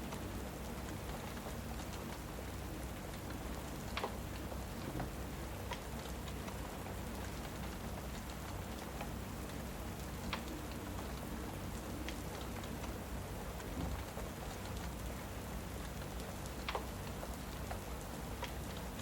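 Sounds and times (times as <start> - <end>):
rainfall hiss: 0.0 - 19.0.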